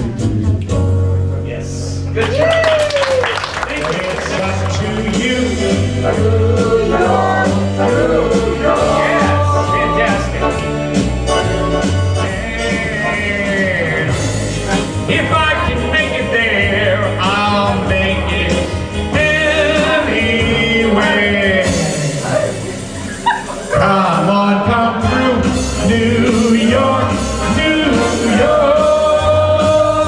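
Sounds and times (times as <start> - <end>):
band music: 0.0 - 30.0.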